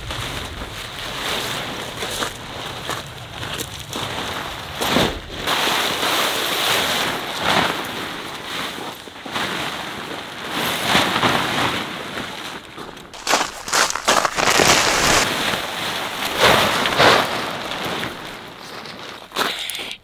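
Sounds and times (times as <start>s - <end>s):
tent fabric rustling and flapping: 0.0s - 19.4s.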